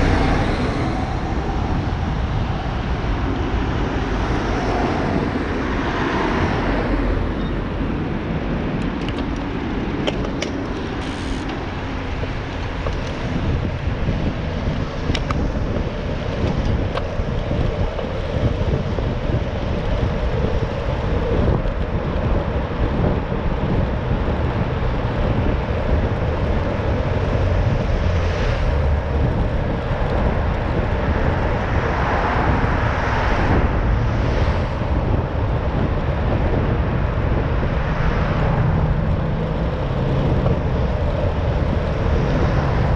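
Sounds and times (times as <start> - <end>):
motor traffic: 0.0 - 42.9
wind rumble on microphone: 0.0 - 42.9.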